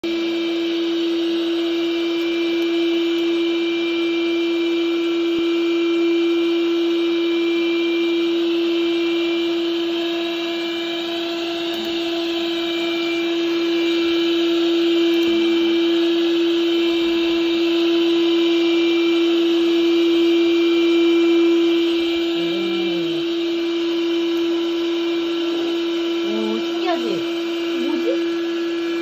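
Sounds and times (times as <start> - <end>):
suction fan motor humming: 0.1 - 29.0.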